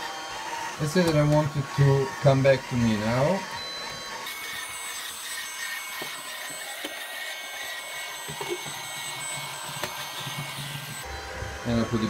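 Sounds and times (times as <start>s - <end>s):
robot vacuum cleaner running: 0.0s - 12.0s.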